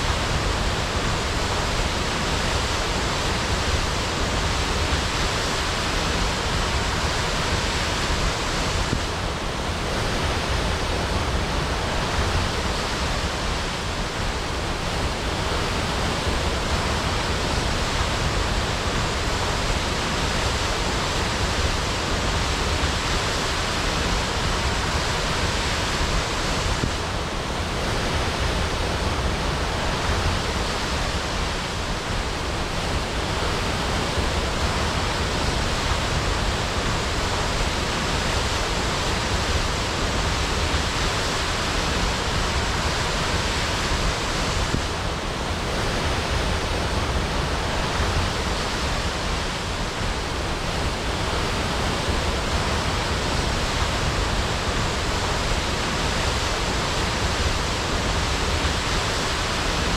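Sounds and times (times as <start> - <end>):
waterfall crashing: 0.0 - 59.9.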